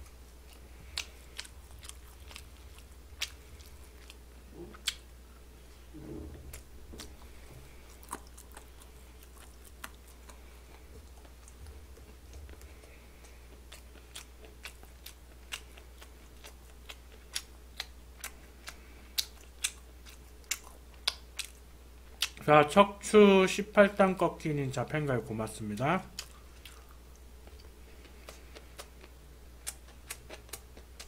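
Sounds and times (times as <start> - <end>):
chewing with mouth clicks: 0.0 - 5.1, 6.5 - 22.4, 26.1 - 31.0
faint low hum: 0.0 - 31.0.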